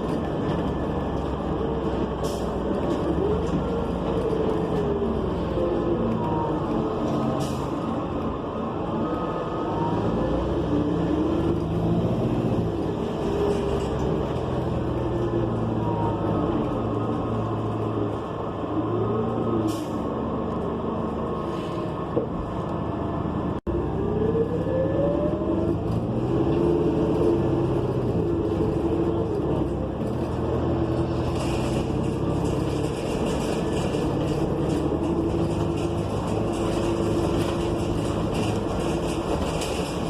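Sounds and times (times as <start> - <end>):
bus engine running: 0.0 - 40.0.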